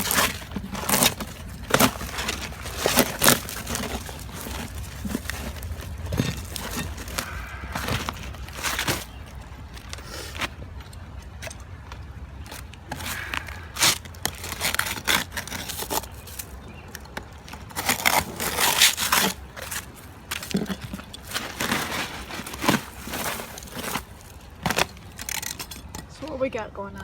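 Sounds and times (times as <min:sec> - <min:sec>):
roof shingles being torn off: 0:00.0 - 0:11.1, 0:12.4 - 0:25.9.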